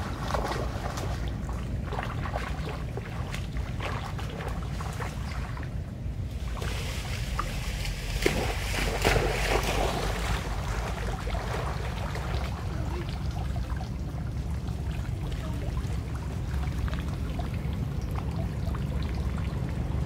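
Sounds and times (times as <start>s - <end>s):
water splashing: 0.0s - 20.0s
wind rumbling on microphone: 0.0s - 20.0s.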